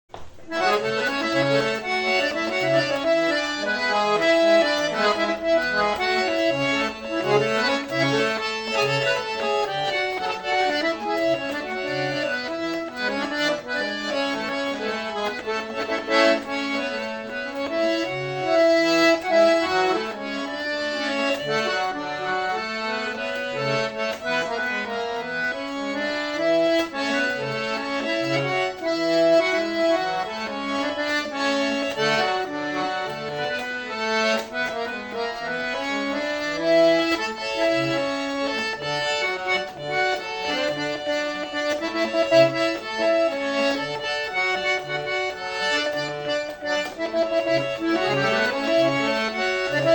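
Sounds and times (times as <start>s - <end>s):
accordion playing a tune: 0.1s - 49.9s.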